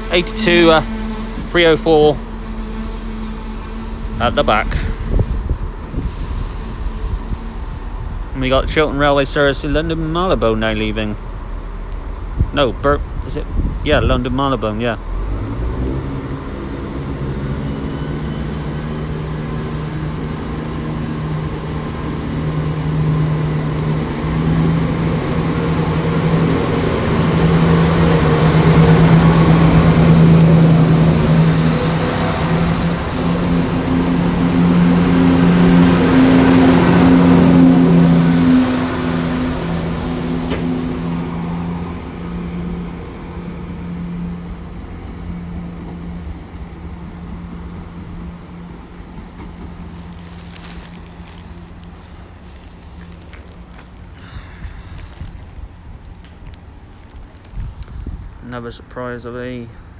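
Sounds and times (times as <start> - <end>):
diesel train engines accelerating: 0.0 - 59.9.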